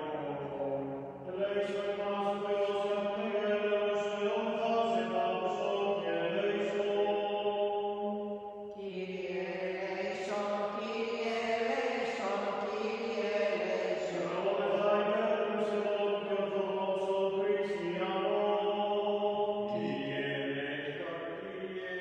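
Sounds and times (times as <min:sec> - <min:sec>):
person chanting slow melody: 0:00.0 - 0:08.2, 0:08.8 - 0:22.0.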